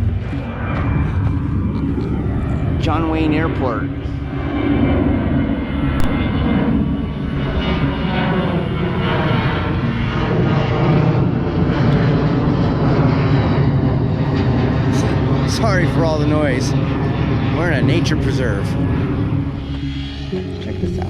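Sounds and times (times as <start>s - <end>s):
airplane engine rumble: 0.0s - 21.0s.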